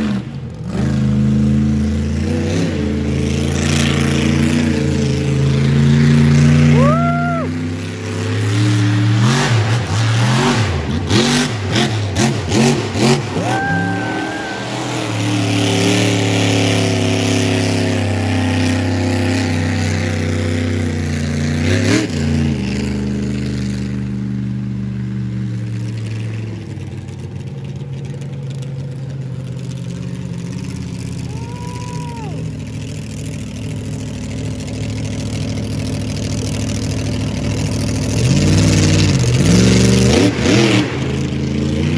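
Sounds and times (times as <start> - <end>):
monster truck engine revving: 0.0 - 27.4, 28.0 - 41.9.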